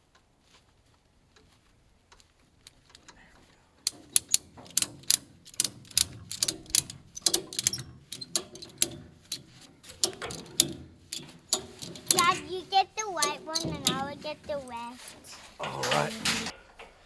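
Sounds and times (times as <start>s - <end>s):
sharp mechanical clicks and clanks: 2.1s - 16.9s.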